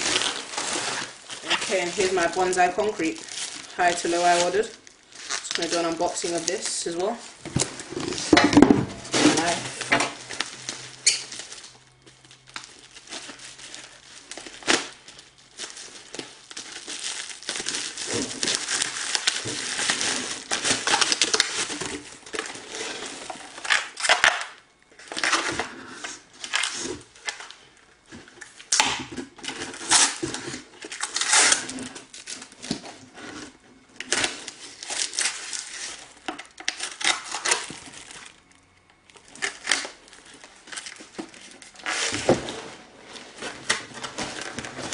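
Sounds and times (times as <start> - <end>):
packaging crinkled and torn: 0.0 - 8.4, 9.0 - 42.3.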